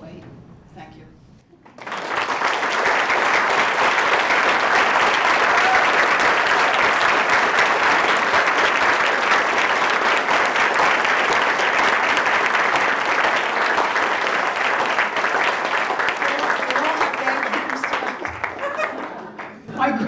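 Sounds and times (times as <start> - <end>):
audience applauding: 1.6 - 20.0.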